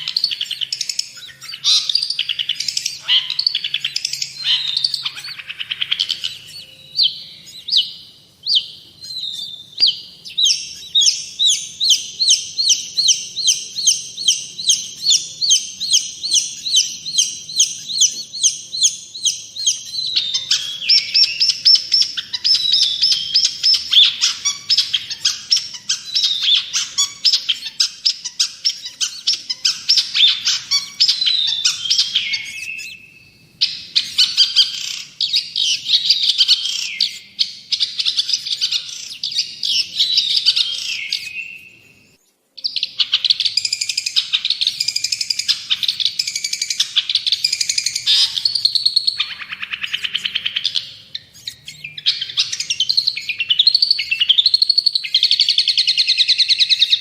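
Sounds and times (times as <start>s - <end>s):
shrike singing chattering song: 0.0s - 57.0s.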